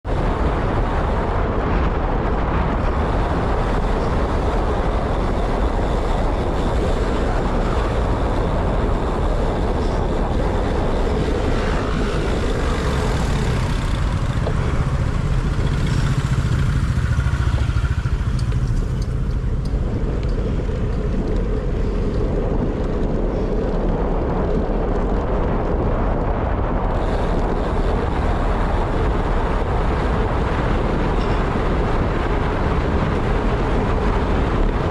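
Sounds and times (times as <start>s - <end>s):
low road rumble: 0.0s - 34.9s
wind rushing on microphone: 0.0s - 34.9s.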